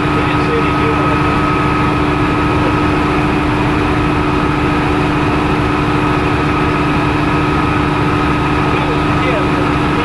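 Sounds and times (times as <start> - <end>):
helicopter engine and rotor drone: 0.0 - 10.0.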